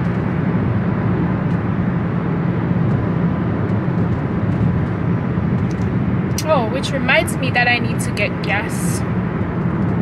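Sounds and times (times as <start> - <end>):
car road and engine hum: 0.0 - 10.0.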